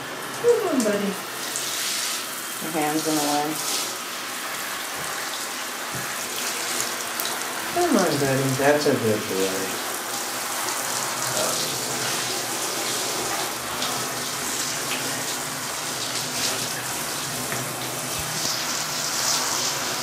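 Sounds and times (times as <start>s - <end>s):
water running from tap into tub: 0.0s - 20.0s.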